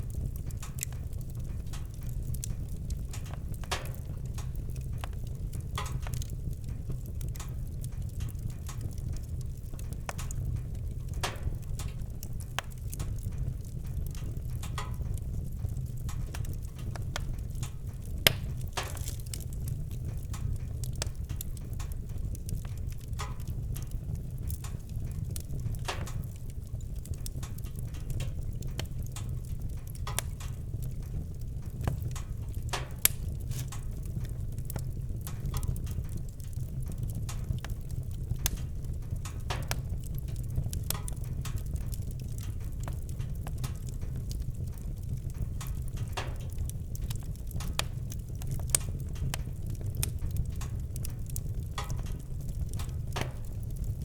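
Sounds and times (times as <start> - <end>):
campfire crackling: 0.0 - 54.0
sharp pops of fire: 0.0 - 54.0.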